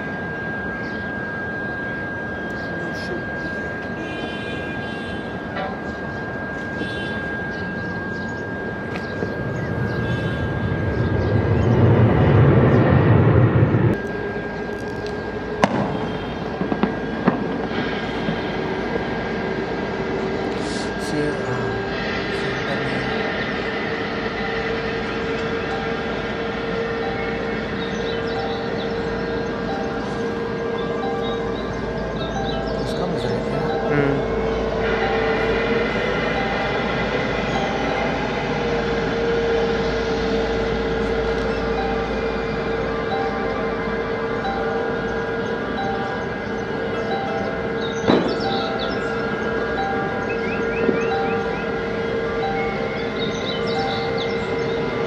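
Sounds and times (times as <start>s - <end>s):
jet engines rumbling: 0.0s - 55.0s
steady background noise: 0.0s - 55.0s.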